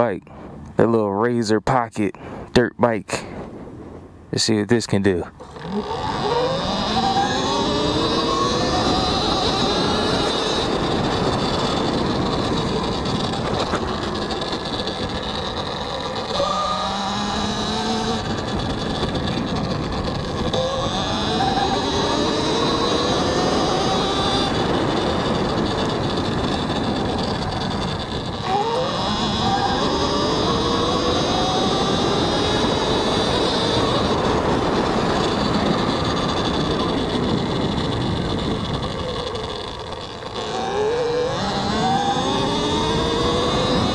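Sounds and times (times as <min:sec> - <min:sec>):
wind noise on microphone: 0:00.0 - 0:43.9
tyre noise: 0:04.9 - 0:43.9
electric motor whine: 0:05.3 - 0:43.9.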